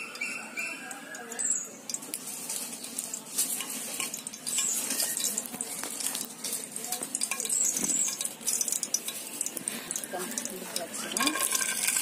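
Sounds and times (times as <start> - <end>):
hot fat sizzling and crackling: 0.0 - 12.0.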